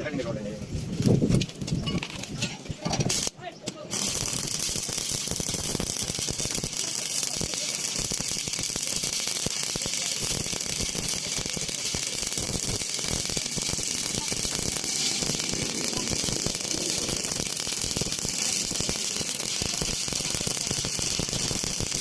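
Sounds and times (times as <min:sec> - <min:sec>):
welding arc crackling: 0:01.5 - 0:22.0.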